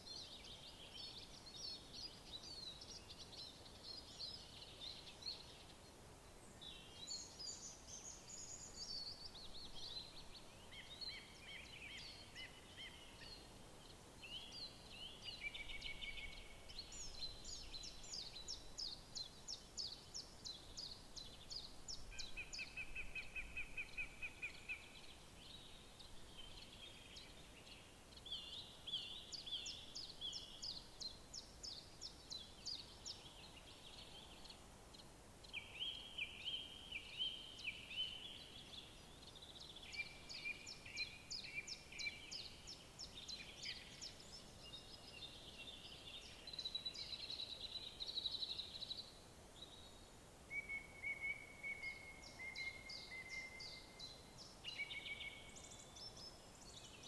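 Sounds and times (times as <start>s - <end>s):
faint steady hiss: 0.0s - 57.0s
songbirds singing: 0.0s - 57.0s.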